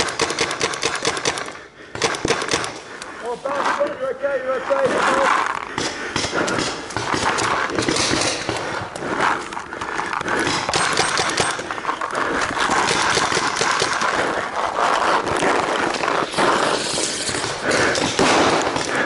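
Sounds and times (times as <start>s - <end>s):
paintball markers firing: 0.0s - 3.7s, 4.9s - 19.0s.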